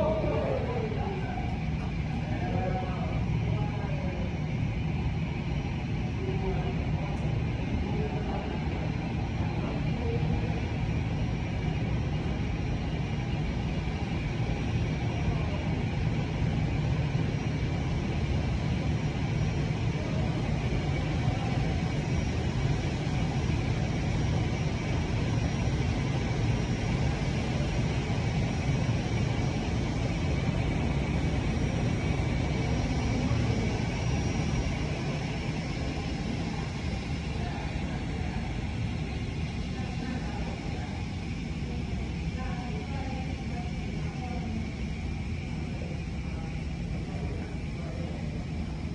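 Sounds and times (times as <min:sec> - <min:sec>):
jet engines idling: 0:00.0 - 0:48.9.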